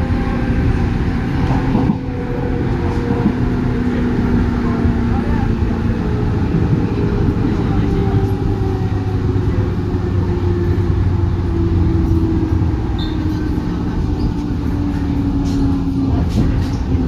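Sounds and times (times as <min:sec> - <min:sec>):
electric train whine: 0:00.0 - 0:17.0
train wheels rumbling: 0:00.0 - 0:17.0.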